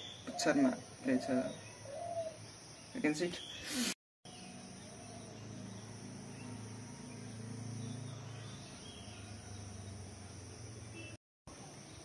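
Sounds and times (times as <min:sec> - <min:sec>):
faint insect drone: 0:00.0 - 0:12.0.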